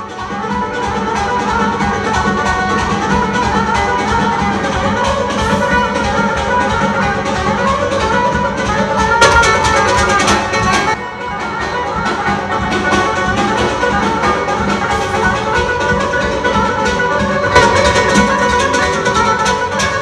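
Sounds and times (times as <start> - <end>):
drum beat: 0.0 - 20.0
plucked lute melody: 0.0 - 20.0.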